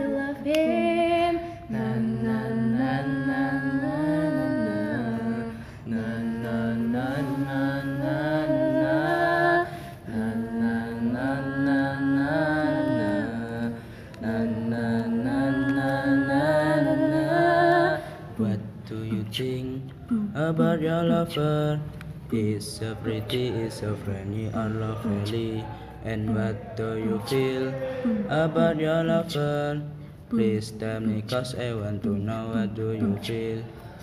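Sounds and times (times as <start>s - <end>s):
group of voices singing: 0.0s - 34.0s.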